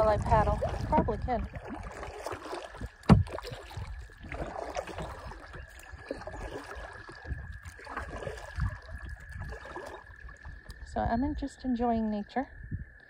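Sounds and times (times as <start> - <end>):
paddle splashing water: 0.0 - 11.0.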